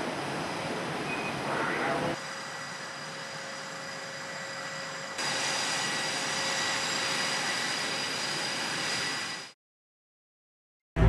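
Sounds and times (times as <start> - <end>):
jet engines running: 0.0 - 9.6.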